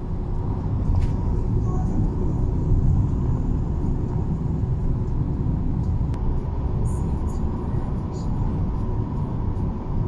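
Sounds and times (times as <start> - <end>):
vehicle interior rumble: 0.0 - 10.0.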